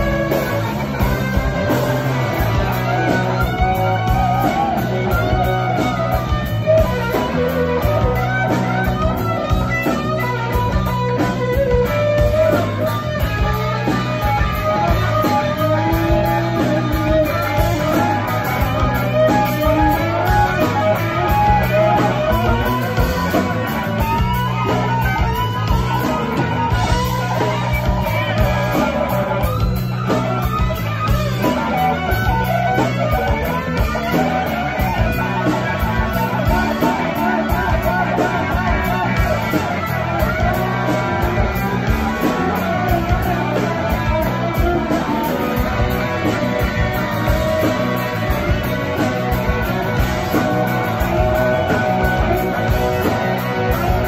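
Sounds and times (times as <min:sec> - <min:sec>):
bass guitar: 0:00.0 - 0:54.0
drums: 0:00.0 - 0:54.0
electric guitar with bending notes: 0:00.0 - 0:54.0.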